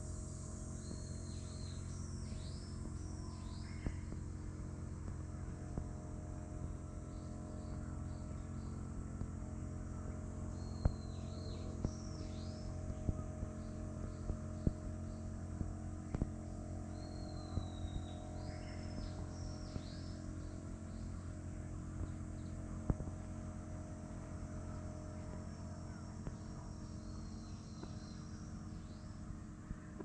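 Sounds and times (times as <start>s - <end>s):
songbird singing: 0.0s - 30.0s
steady low hum: 0.0s - 30.0s.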